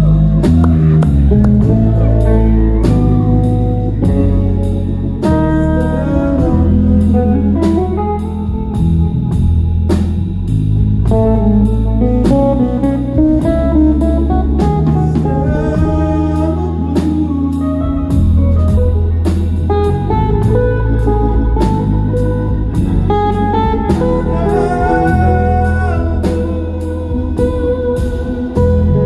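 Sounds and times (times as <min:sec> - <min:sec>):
drum kit with cymbals: 0:00.0 - 0:29.0
electric bass: 0:00.0 - 0:29.0
lead melody with pitch bends: 0:00.0 - 0:29.0.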